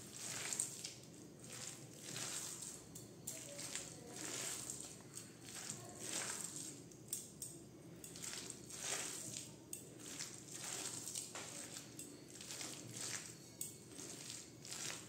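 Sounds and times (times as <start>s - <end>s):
hand squeezing cabbage in steel bowl: 0.0s - 7.2s, 8.0s - 15.0s.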